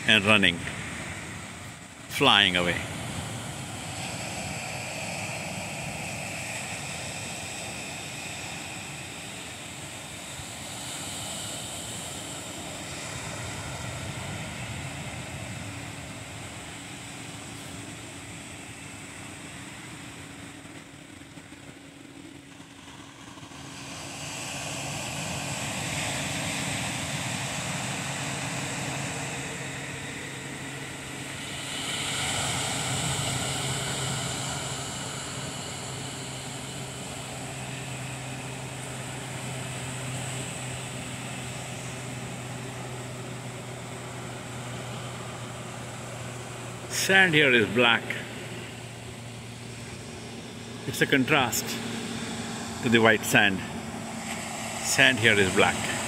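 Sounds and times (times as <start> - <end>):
ocean surf breaking: 0.0 - 20.6, 24.0 - 56.0
faint low drone: 0.0 - 56.0.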